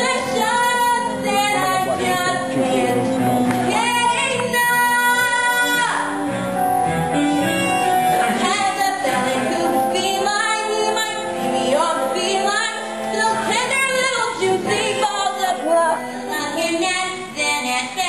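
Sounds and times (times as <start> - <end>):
woman singing with vibrato: 0.0 - 6.3, 8.2 - 18.0
instrumental accompaniment: 0.0 - 18.0.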